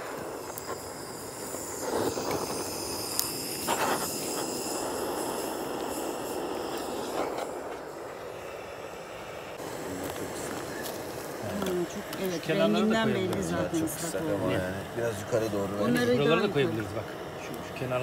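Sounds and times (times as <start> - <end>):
gas torch hissing: 0.0 - 18.0.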